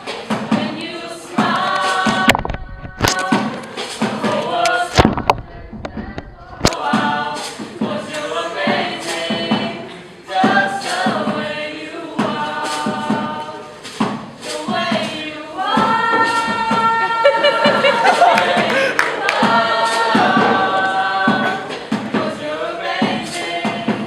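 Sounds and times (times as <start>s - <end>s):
group singing in harmony: 0.0s - 24.0s.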